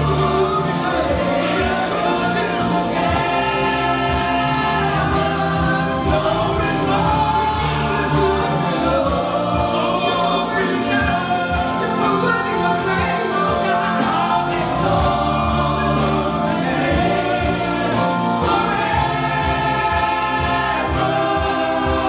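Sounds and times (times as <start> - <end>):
band with steady beat: 0.0 - 22.0
gospel choir singing: 0.0 - 22.0.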